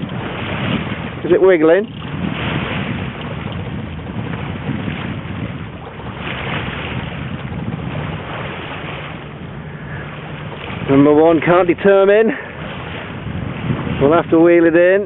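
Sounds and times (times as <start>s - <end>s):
water washing along a hull: 0.0s - 15.0s
wind rumbling on microphone: 0.0s - 15.0s.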